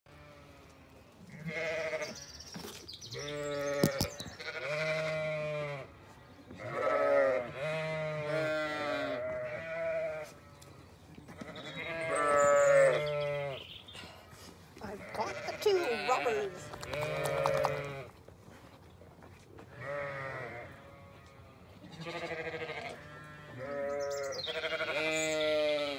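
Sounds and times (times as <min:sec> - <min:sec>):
sheep bleating: 0:00.1 - 0:02.4, 0:03.1 - 0:10.7, 0:11.3 - 0:13.7, 0:14.8 - 0:18.1, 0:19.7 - 0:25.9.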